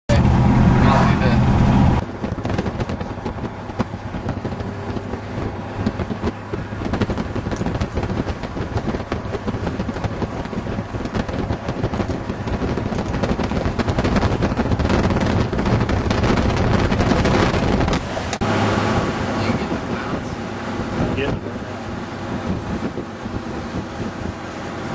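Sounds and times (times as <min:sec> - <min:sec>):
vehicle rumbling on road: 0:00.1 - 0:24.9
wind buffeting microphone: 0:00.1 - 0:24.9.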